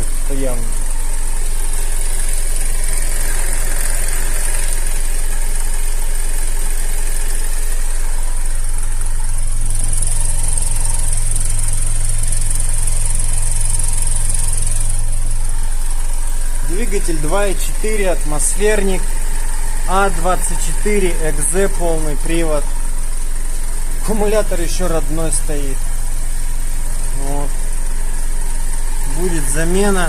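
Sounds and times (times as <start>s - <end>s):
petrol engine idling: 0.0s - 30.0s.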